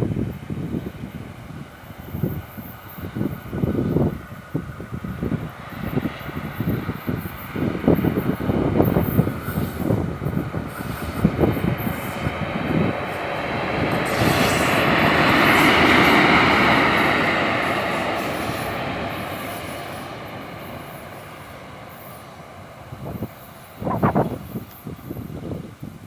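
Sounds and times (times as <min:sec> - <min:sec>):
train passing on rails: 0:00.0 - 0:26.0.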